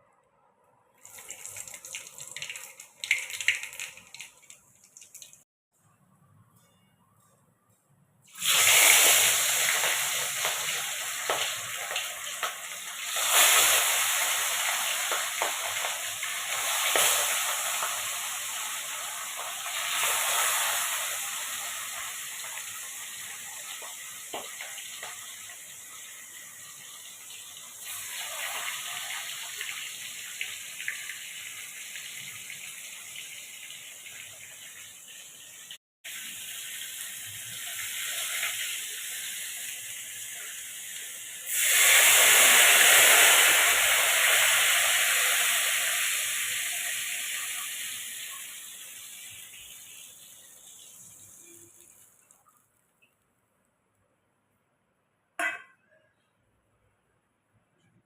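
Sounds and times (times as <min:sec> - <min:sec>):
food sizzling in hot oil: 0:01.0 - 0:05.4, 0:08.3 - 0:52.8.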